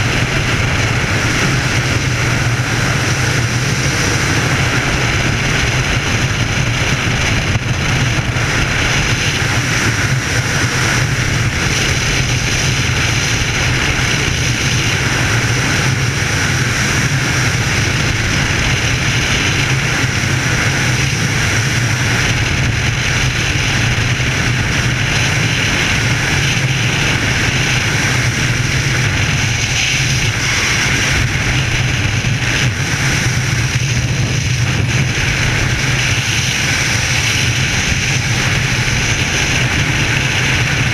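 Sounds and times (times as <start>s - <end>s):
low rumble: 0.0s - 40.9s
wind rushing over microphone: 0.0s - 40.9s.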